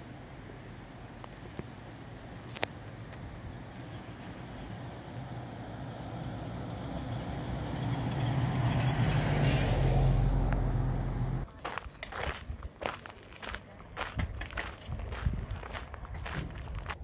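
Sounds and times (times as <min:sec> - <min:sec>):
vehicle approaching on highway: 0:00.1 - 0:17.0.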